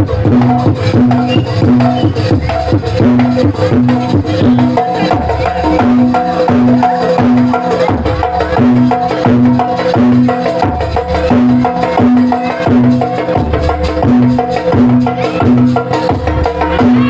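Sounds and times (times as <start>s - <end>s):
pitched percussion phrase: 0.0s - 17.0s
steady drum beat: 0.0s - 17.0s
woodblock beat: 0.0s - 17.0s.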